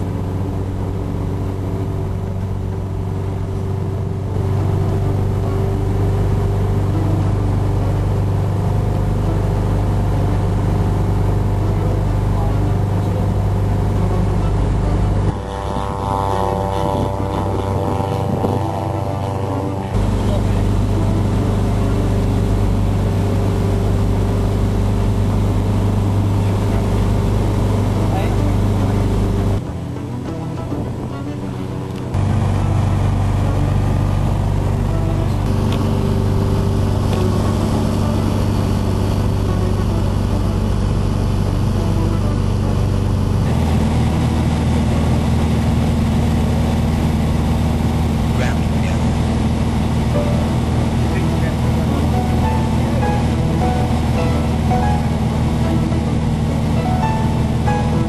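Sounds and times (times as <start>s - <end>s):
propeller engine droning: 0.0s - 58.0s.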